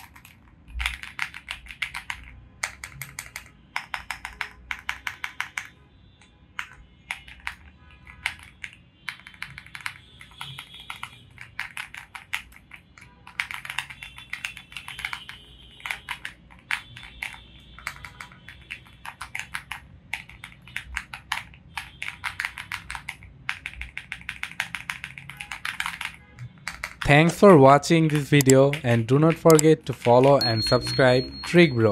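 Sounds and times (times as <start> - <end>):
mechanical keyboard keystrokes clacking: 0.0 - 5.7, 6.6 - 31.7.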